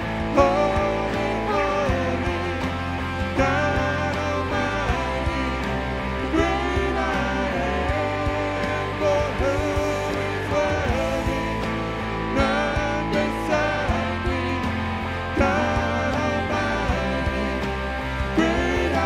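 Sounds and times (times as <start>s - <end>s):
live worship band playing: 0.0s - 19.0s
male lead singer: 0.0s - 19.0s.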